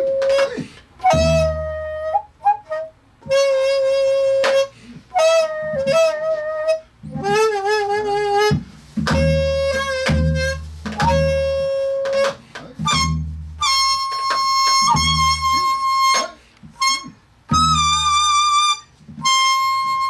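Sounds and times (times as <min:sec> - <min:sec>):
bamboo flute melody: 0:00.0 - 0:20.0.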